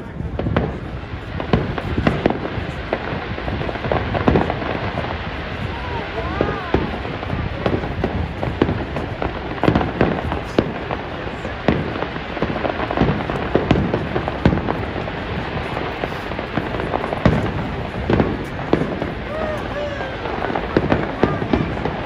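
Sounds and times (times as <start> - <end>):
continuous haze of noise: 0.0 - 22.0
firework shells bursting: 0.4 - 22.0.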